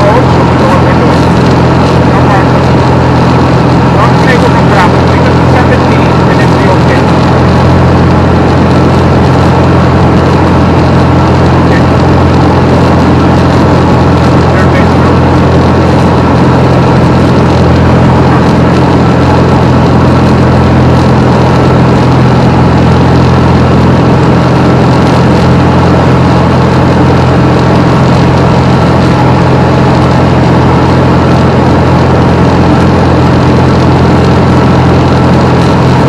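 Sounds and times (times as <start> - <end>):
aircraft engine and propeller drone: 0.0 - 36.0
rushing noise: 0.0 - 36.0.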